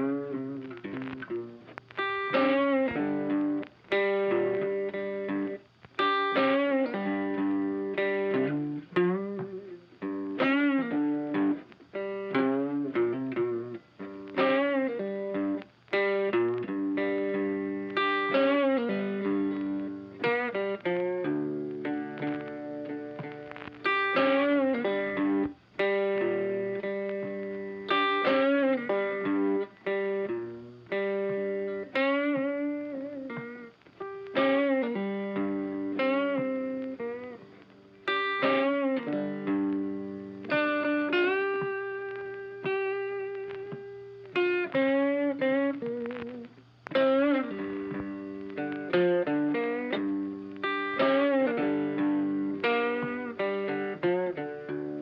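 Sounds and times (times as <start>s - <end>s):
plucked guitar with distortion: 0.0s - 55.0s.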